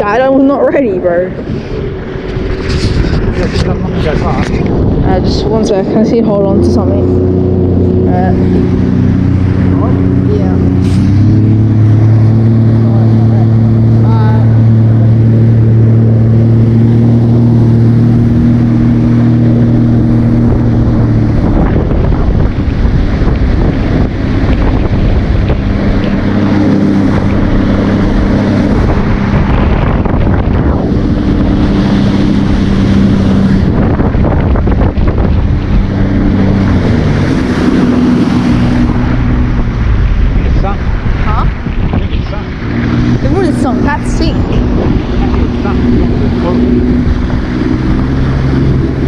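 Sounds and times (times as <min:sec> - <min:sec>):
jet ski engine running: 0:00.0 - 0:49.0
water rushing: 0:00.0 - 0:49.0
wind buffeting on microphone: 0:00.0 - 0:49.0.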